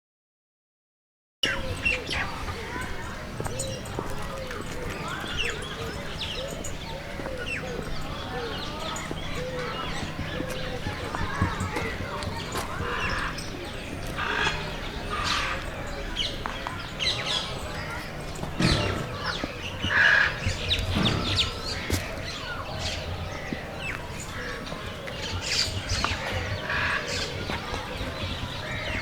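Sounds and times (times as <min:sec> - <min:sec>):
birds chirping and squawking: 0:01.4 - 0:29.0.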